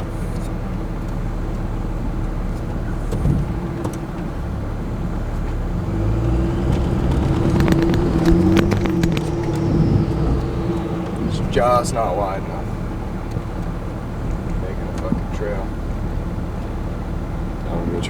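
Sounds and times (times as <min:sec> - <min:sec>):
diesel engine under load: 0:00.0 - 0:18.0.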